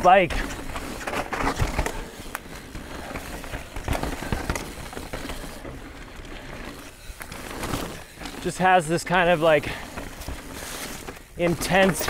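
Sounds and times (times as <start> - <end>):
bike knocking over bumps: 0.0 - 12.0
bike tyres rolling over dirt: 0.0 - 12.0.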